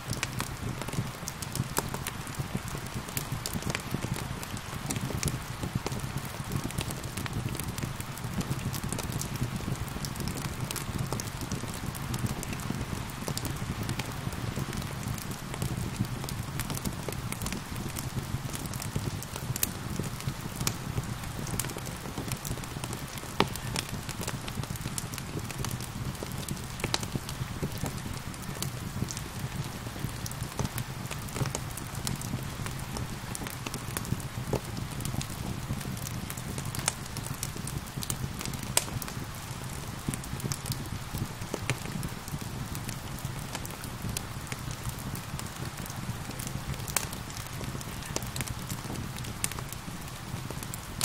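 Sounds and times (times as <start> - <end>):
gentle rain hissing: 0.0 - 51.0
wood fire crackling: 0.0 - 51.0.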